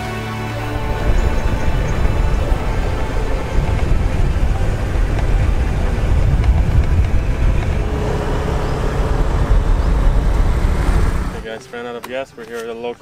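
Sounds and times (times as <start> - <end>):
scooter engine running: 0.6 - 11.4
wind buffeting microphone: 0.6 - 11.4.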